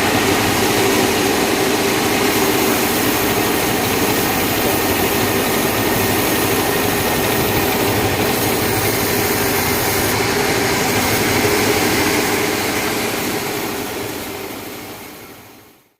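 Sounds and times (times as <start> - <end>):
sawmill machinery droning: 0.0 - 15.8.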